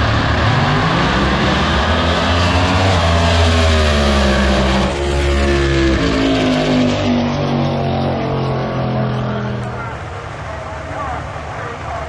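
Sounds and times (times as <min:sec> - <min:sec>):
drag racing car engine: 0:00.0 - 0:12.0.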